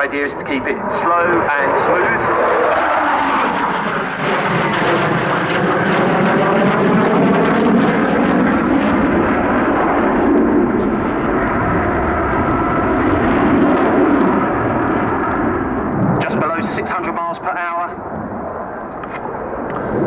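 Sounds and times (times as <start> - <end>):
jet engines roaring in flight: 0.0 - 20.0.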